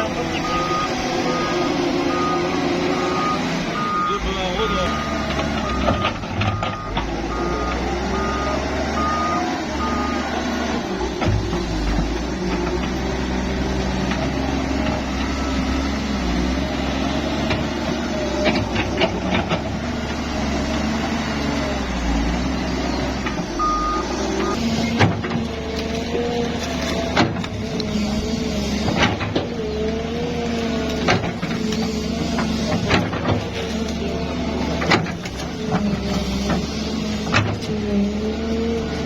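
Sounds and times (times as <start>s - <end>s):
construction machinery diesel engines: 0.0s - 39.0s.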